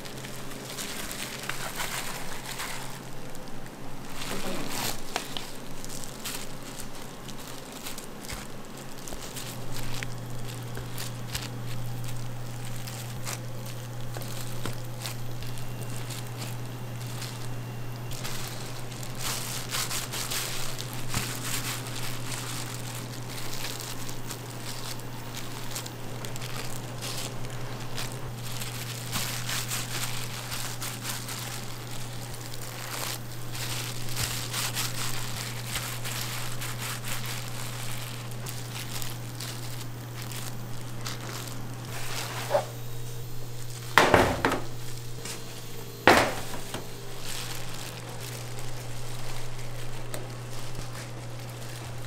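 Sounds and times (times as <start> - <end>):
plastic gloves crinkling: 0.0 - 52.0
steady low hum: 0.0 - 52.0.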